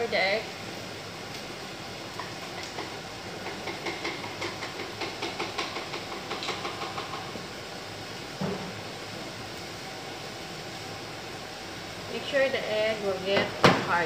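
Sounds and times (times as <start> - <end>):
pots boiling on a gas stove: 0.0 - 14.0.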